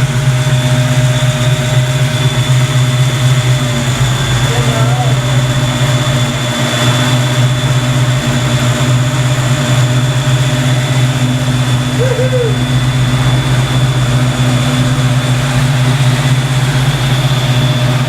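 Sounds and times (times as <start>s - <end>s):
car engine idling: 0.0s - 18.0s
electric radiator fans running: 0.0s - 18.0s.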